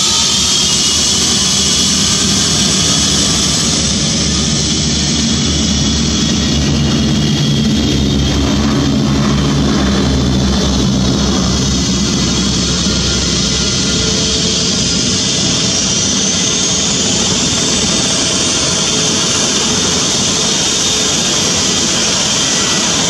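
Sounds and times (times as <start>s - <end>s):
helicopter turbines whining: 0.0s - 23.0s
propeller plane engines droning: 0.0s - 23.0s.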